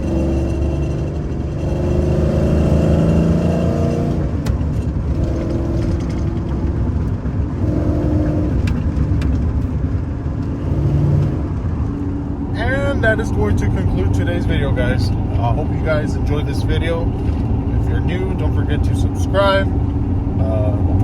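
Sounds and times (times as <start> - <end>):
road noise: 0.0 - 21.0
truck engine revving: 0.0 - 21.0.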